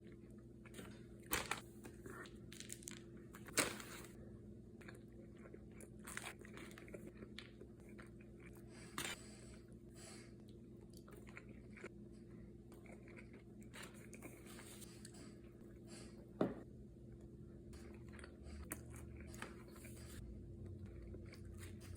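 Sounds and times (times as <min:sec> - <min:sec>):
eating crunches and bites: 0:00.0 - 0:04.2, 0:04.8 - 0:09.5, 0:10.4 - 0:15.3, 0:17.8 - 0:21.9
steady low hum: 0:00.0 - 0:21.9.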